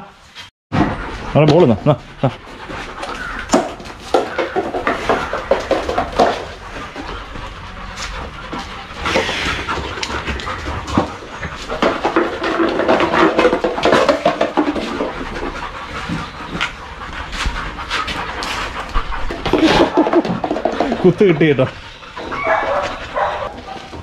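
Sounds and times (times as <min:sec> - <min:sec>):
dogs panting: 0:00.8 - 0:24.0.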